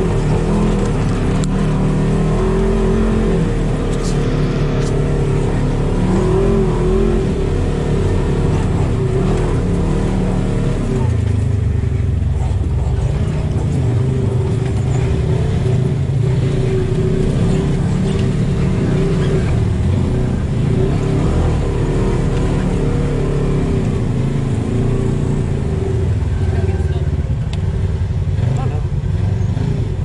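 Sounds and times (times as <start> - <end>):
vehicle engine running steadily: 0.0 - 30.0.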